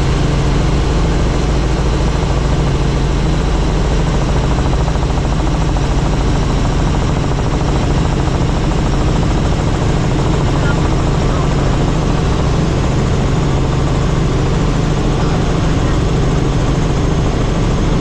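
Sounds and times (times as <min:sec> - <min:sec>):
helicopter rotor running: 0:00.0 - 0:18.0.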